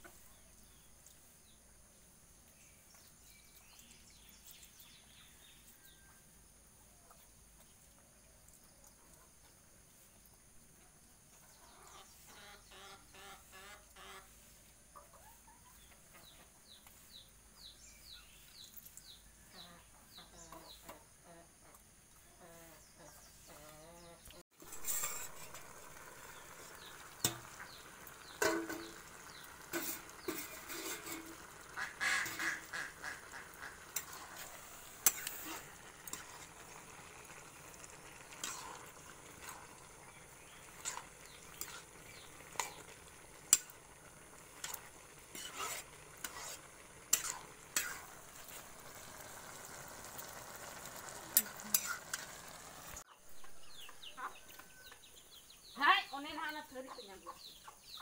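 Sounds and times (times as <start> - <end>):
cooking hiss: 0.0 - 58.0.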